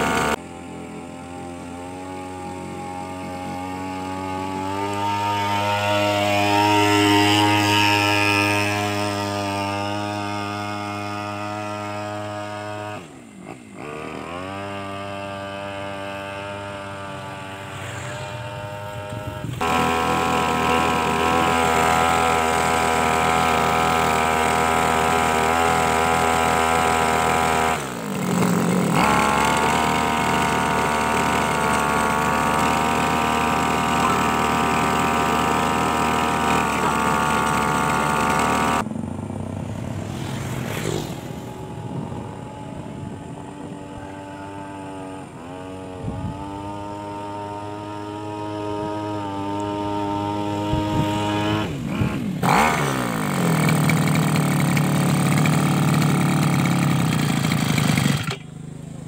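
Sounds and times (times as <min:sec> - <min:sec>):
boat outboard engine running: 0:00.0 - 0:59.0.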